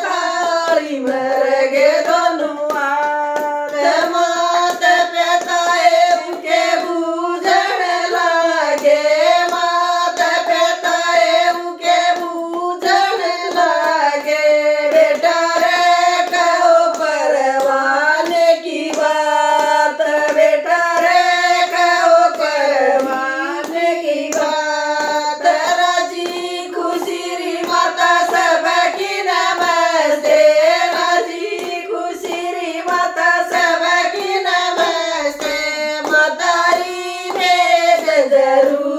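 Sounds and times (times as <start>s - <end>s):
hands clapping: 0.0s - 38.9s
women singing folk song: 0.0s - 38.9s.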